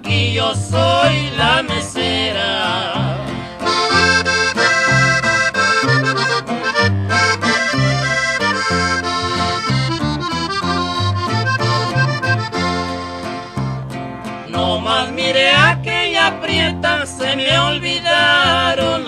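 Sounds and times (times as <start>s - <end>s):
accordion playing: 0.0s - 19.0s
steady bass line: 0.0s - 19.0s.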